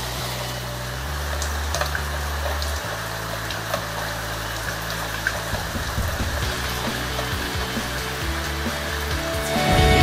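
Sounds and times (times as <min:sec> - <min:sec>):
rain pouring: 0:00.0 - 0:10.0.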